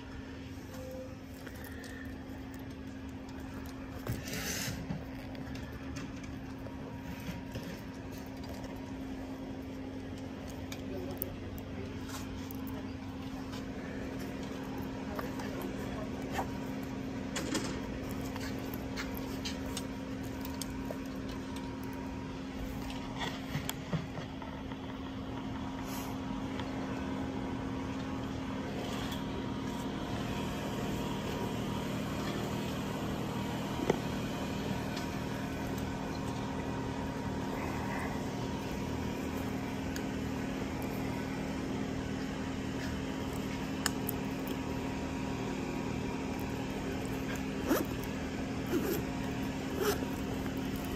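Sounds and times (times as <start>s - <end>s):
motor humming: 0.0s - 50.9s.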